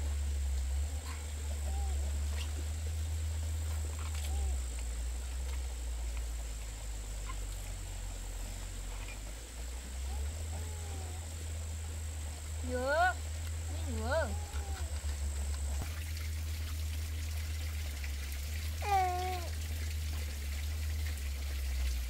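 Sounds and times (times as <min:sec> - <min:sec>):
steady low rumble: 0:00.0 - 0:18.8.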